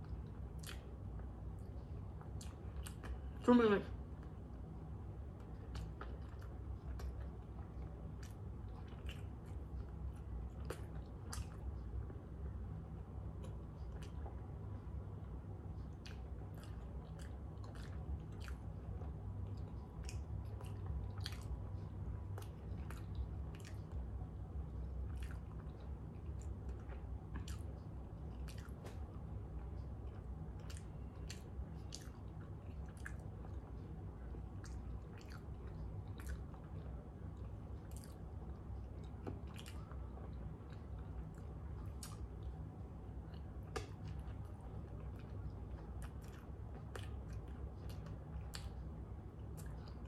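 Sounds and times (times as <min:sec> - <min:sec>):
person chewing food: 0:00.0 - 0:03.4, 0:05.2 - 0:12.6, 0:13.3 - 0:50.0
steady low hum: 0:00.0 - 0:50.0.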